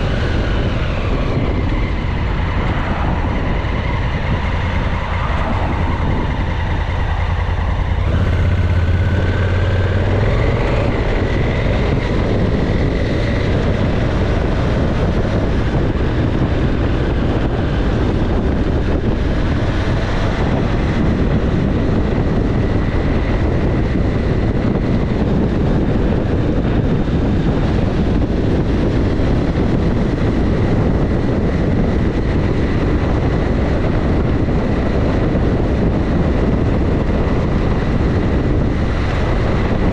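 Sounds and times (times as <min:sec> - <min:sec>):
motorcycle engine: 0:00.0 - 0:39.9
road noise: 0:00.0 - 0:39.9
wind rush on microphone: 0:00.0 - 0:39.9.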